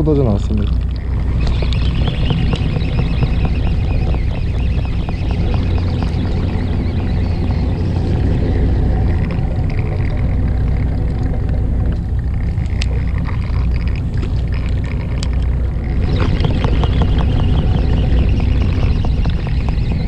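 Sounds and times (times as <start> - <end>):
boat engine rumbling: 0.0 - 20.0
fishing reel ticking: 0.0 - 20.0.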